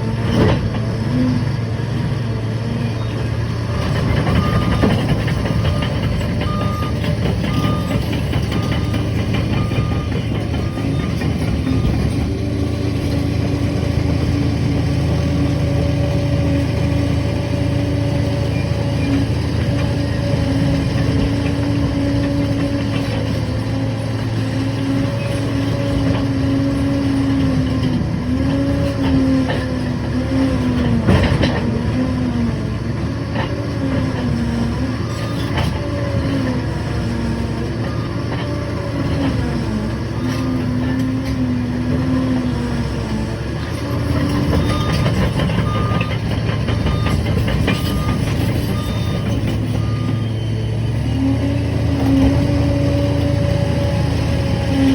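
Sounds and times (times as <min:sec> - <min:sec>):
bulldozer engine running: 0:00.0 - 0:54.9.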